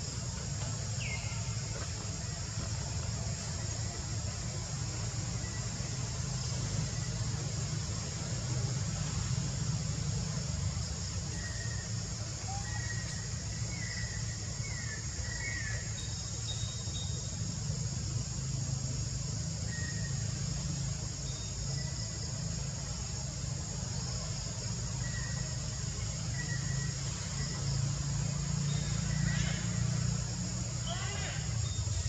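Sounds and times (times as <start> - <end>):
high insect drone: 0.0 - 32.0
low outdoor rumble: 0.0 - 32.0.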